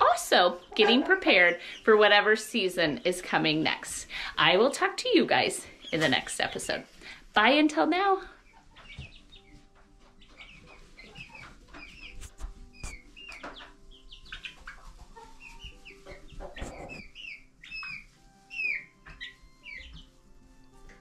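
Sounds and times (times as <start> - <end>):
chicks peeping and clucking: 0.0 - 21.0.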